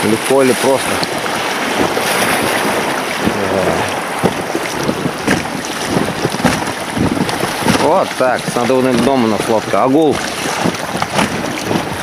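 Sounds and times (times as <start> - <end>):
knocks and splashes: 0.0 - 12.0
water rushing around boat: 0.0 - 12.0
wind buffeting microphone: 0.0 - 12.0.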